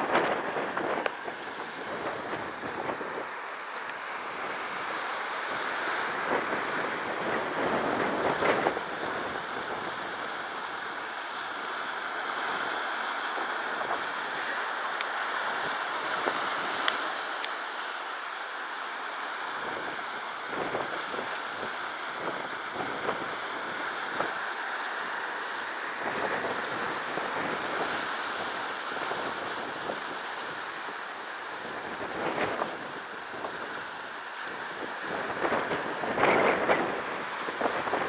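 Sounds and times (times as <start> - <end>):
wind noise on microphone: 0.0 - 11.1, 12.3 - 17.6, 19.5 - 38.0
sea water lapping and splashing: 0.0 - 38.0.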